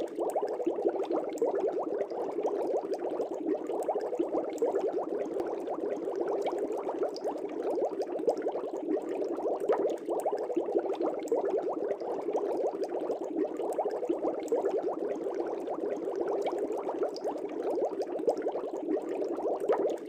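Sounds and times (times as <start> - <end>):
fish tank air bubbles: 0.0 - 20.0.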